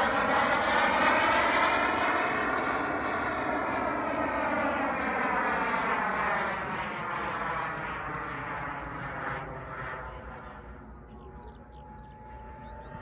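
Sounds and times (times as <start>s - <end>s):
jet turbine roar: 0.0s - 13.0s.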